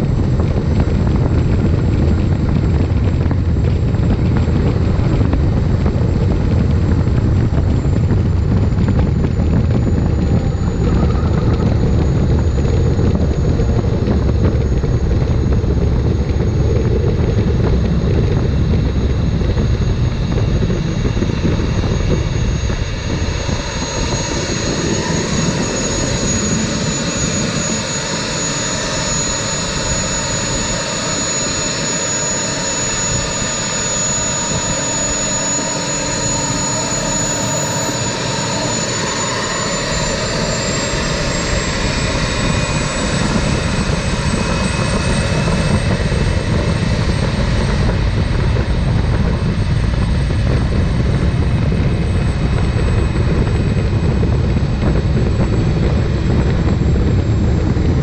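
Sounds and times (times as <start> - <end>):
low rumble: 0.0 - 58.0
turbine engine whine: 0.0 - 58.0.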